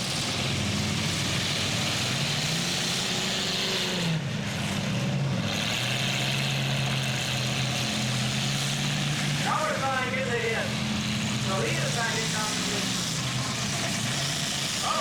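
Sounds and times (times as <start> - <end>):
engines revving: 0.0 - 15.0.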